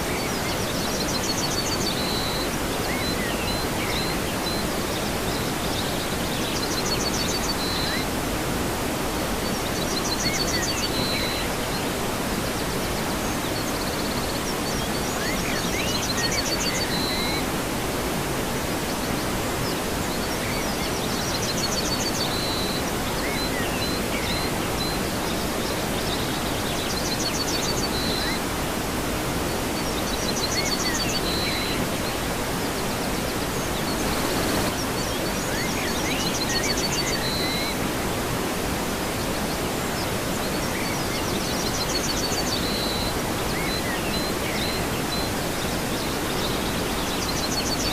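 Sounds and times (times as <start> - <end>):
waterfall rushing water: 0.0 - 47.9.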